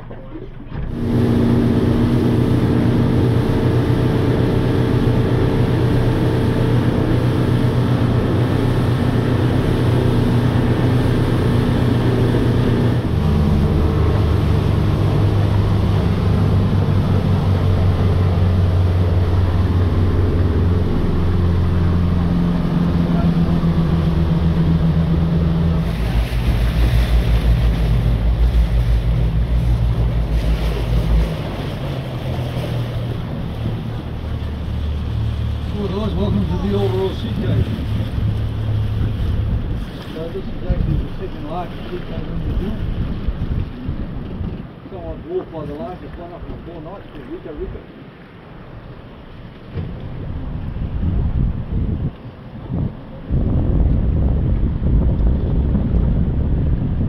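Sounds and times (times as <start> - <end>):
boat engine running: 0.0 - 57.0
water rushing: 0.0 - 57.0
wind: 0.0 - 57.0.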